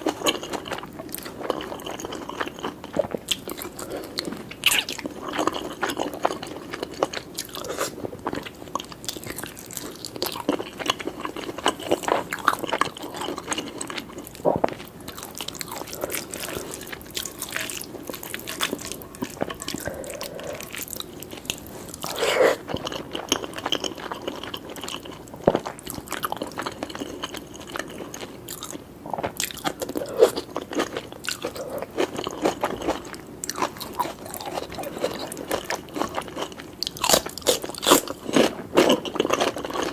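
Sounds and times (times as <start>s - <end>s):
wet chewing: 0.0s - 39.9s.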